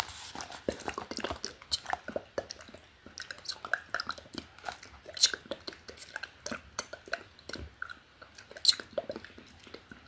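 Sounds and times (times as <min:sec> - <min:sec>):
wet mouth clicks: 0:00.8 - 0:10.0.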